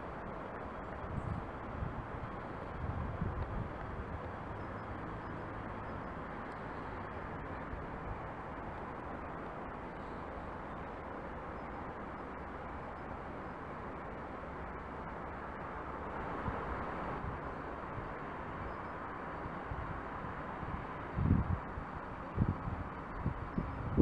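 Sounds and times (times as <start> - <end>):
distant trains rumble: 0.0 - 24.0
road traffic rumble: 0.0 - 24.0.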